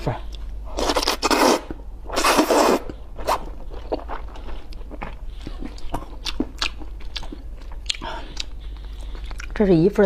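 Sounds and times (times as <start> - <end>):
low steady hum: 0.0 - 10.0
eating bites and mouth clicks: 0.3 - 9.6.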